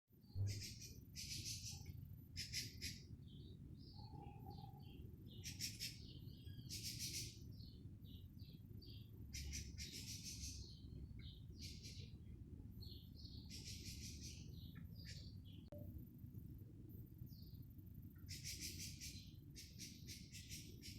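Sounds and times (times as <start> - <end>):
birds chirping and trilling: 0.2 - 15.8, 17.2 - 20.9
low steady rumble: 0.2 - 20.2.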